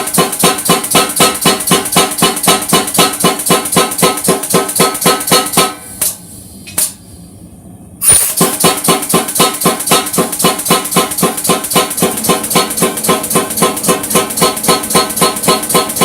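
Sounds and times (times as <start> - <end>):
power hammer striking hot steel: 0.0 - 7.0, 8.0 - 16.0.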